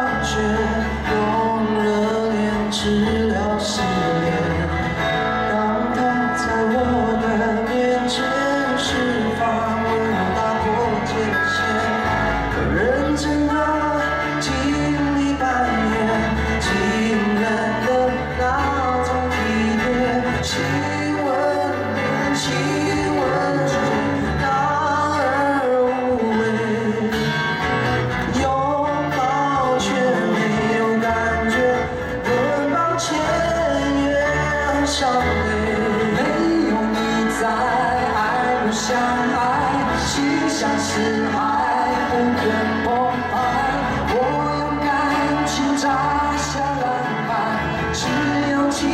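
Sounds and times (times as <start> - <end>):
man singing lead: 0.0 - 48.9
strummed acoustic guitars: 0.0 - 48.9.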